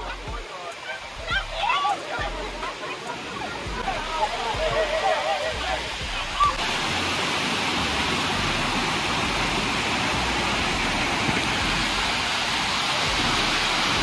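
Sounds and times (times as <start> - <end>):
waterfall rushing over rocks: 0.0 - 14.0.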